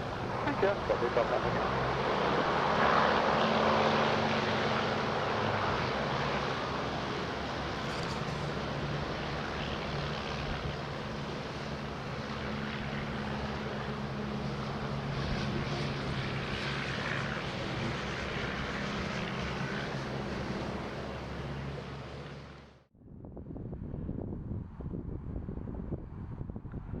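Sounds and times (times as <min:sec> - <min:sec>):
propeller aircraft engine drone: 0:00.0 - 0:27.0.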